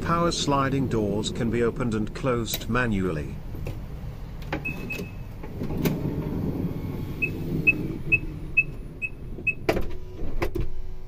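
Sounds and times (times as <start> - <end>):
sliding door rumbling roll: 0.0 - 2.3, 3.4 - 10.9.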